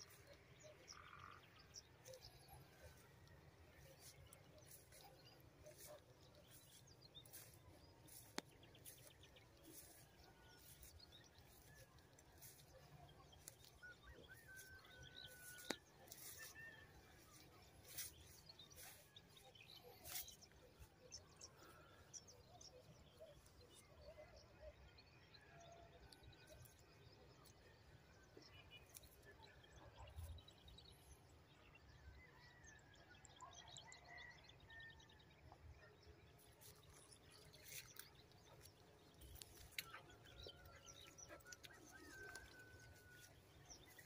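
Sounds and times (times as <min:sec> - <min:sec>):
open-field ambience: 0:00.0 - 0:32.1, 0:35.2 - 0:44.0.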